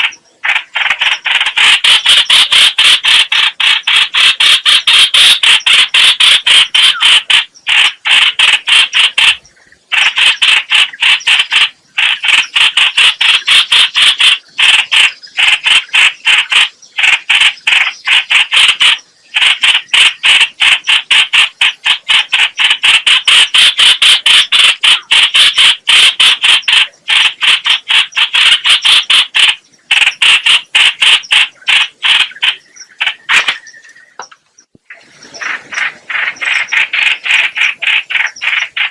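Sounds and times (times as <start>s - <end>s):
bird chattering call: 0.0s - 34.5s, 35.2s - 38.9s.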